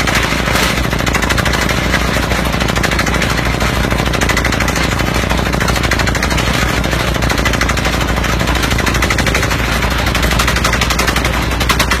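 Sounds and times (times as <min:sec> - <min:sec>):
pneumatic hammer pounding rock: 0:00.0 - 0:12.0
steady low drone: 0:00.0 - 0:12.0.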